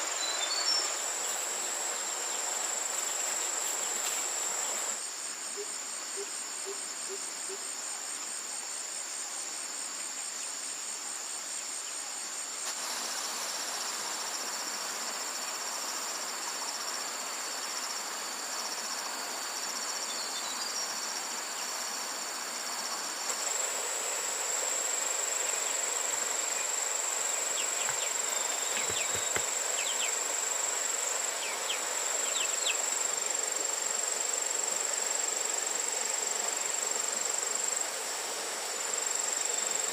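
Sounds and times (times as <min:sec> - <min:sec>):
background hiss: 0:00.0 - 0:39.9
insects trilling in chorus: 0:00.0 - 0:39.9.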